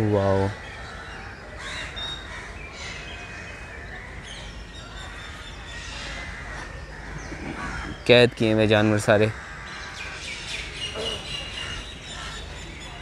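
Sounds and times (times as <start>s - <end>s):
birds calling and chirping: 0.0s - 13.0s
outdoor background hum: 0.0s - 13.0s.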